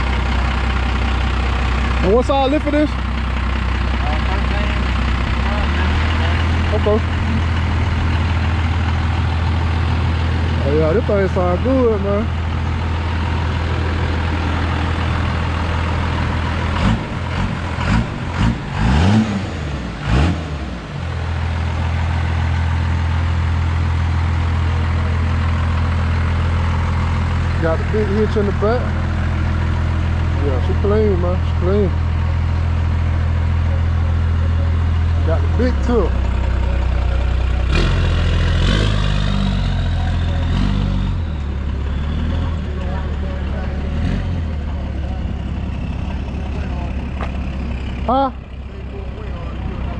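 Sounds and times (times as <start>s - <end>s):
diesel truck engine idling and revving: 0.0s - 49.9s.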